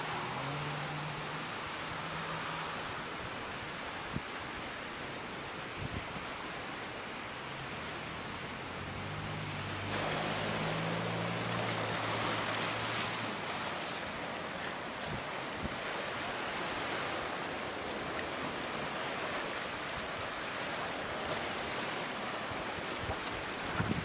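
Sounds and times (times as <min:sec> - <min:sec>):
ocean surf: 0:00.0 - 0:24.0.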